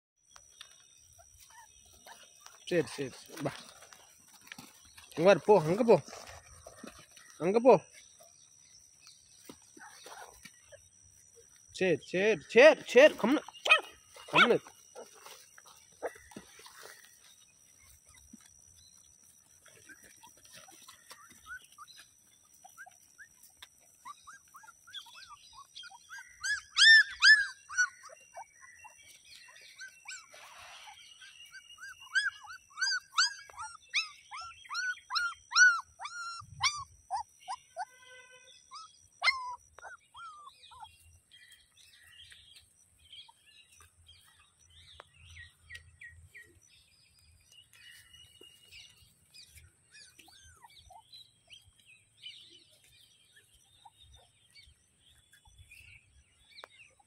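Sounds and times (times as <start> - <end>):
puppies whimpering and yelping: 0.7 - 7.2, 13.2 - 44.7, 48.2 - 56.2.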